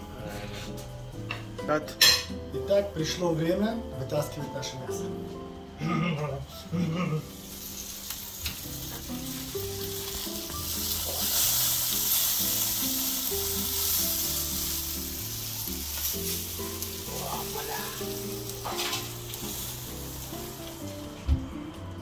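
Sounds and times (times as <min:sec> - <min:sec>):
background music with low notes: 0:00.0 - 0:22.0
meat sizzling on a grill: 0:00.0 - 0:22.0.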